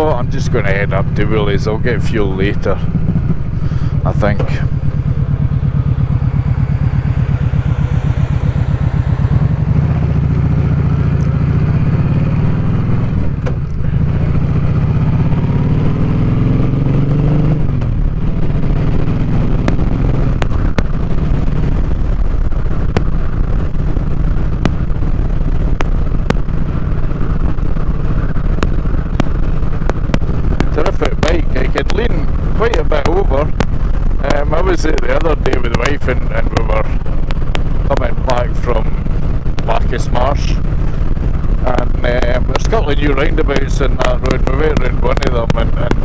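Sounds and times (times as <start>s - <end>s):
motorcycle engine pulsing: 0.0s - 46.0s.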